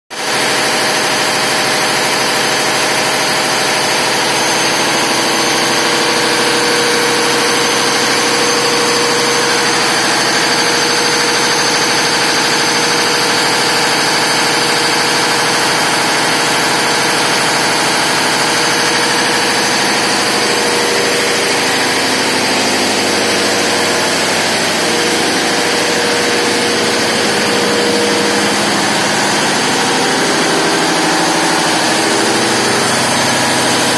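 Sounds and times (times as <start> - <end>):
diesel generator running: 0.1 - 33.9.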